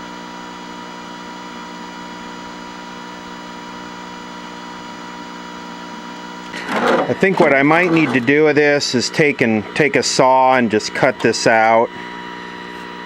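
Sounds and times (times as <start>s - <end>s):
television electrical buzz hum: 1.4s - 13.0s.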